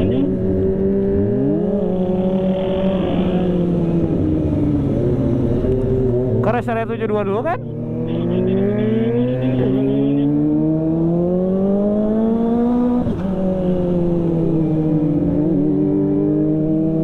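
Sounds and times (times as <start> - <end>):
motorcycle engine accelerating: 0.0 - 6.7, 7.6 - 17.0.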